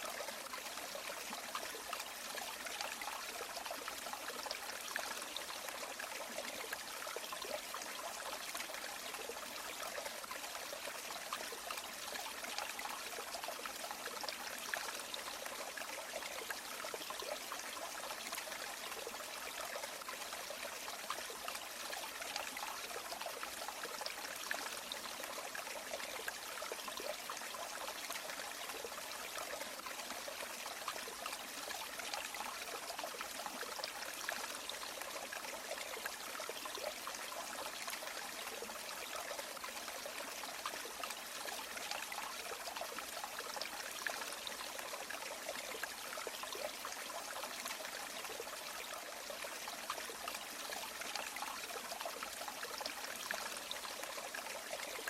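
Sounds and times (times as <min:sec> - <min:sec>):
river water running over stones: 0:00.0 - 0:55.0.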